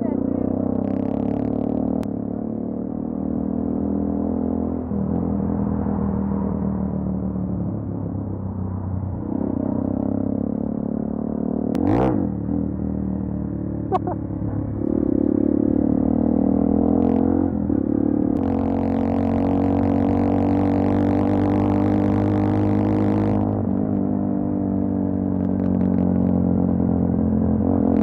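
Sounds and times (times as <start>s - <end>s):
motorcycle engine droning: 0.0s - 28.0s.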